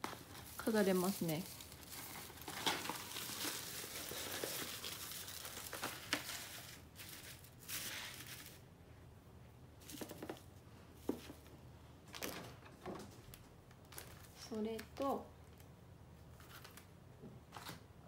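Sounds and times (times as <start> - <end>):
paper banner crinkling and rustling: 0.0 - 8.7, 9.8 - 17.9.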